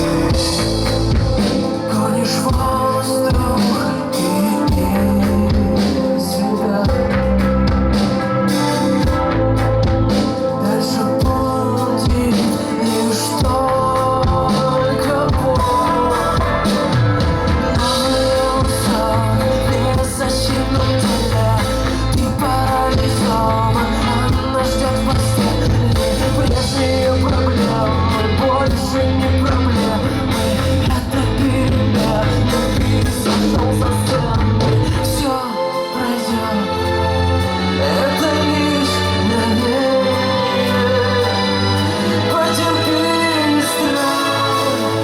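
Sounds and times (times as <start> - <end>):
live rock band playing: 0.0 - 45.0
person singing: 0.0 - 45.0.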